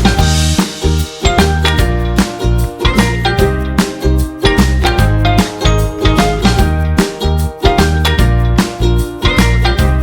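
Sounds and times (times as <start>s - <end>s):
upbeat music with bass and beat: 0.0s - 10.0s.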